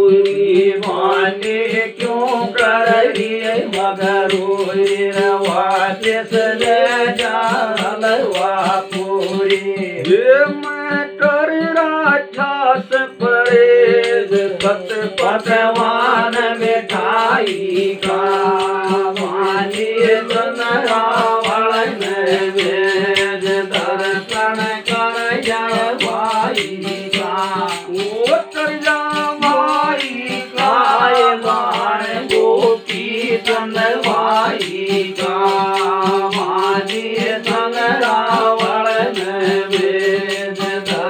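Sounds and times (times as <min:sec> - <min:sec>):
man singing a folk song: 0:00.0 - 0:41.0
quick clicking beat: 0:00.1 - 0:11.4, 0:12.8 - 0:41.0.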